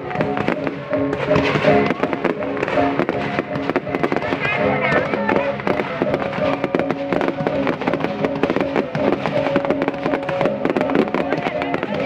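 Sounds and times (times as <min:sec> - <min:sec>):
fireworks crackling and banging: 0:00.0 - 0:12.0
music with held notes: 0:00.0 - 0:12.0.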